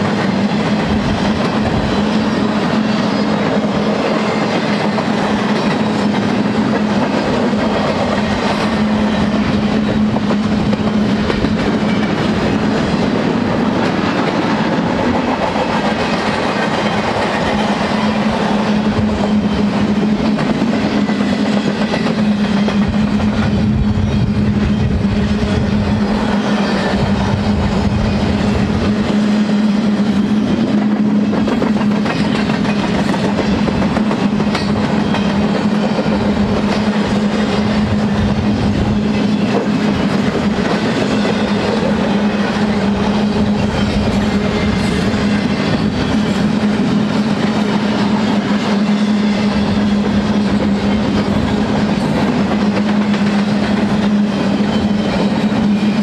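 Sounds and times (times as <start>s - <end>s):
train wheels clattering over rail joints: 0.0s - 56.0s.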